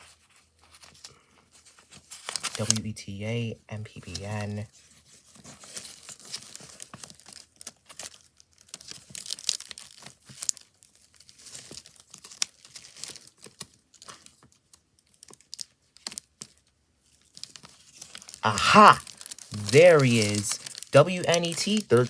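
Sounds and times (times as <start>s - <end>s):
paper rustling and crinkling: 0.0s - 2.8s, 4.0s - 22.0s.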